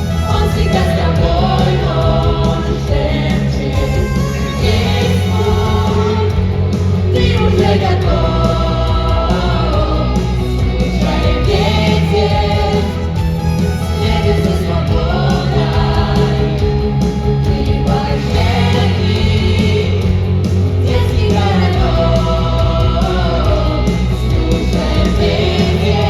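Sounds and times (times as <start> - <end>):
loud music with singing: 0.0 - 26.0
strong steady bass: 0.0 - 26.0.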